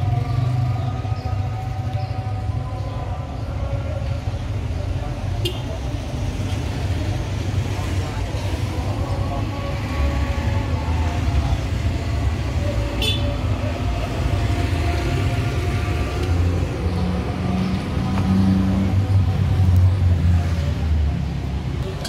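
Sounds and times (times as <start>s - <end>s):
vehicle engines rumbling: 0.0s - 22.0s.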